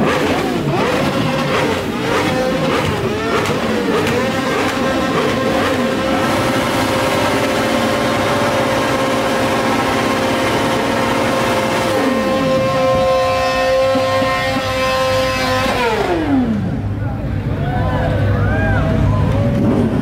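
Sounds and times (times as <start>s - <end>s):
second engine revs falling: 0.0s - 16.9s
motorcycle engine at high revs: 0.0s - 17.0s.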